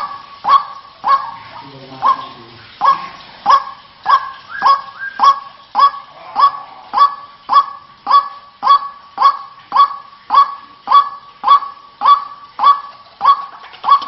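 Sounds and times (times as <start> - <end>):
waterhen calling harsh note: 0.0 - 14.0.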